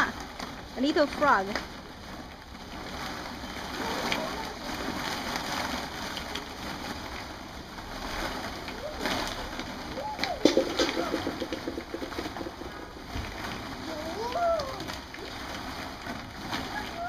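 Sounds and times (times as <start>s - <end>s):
plastic balls clattering: 0.0s - 17.0s.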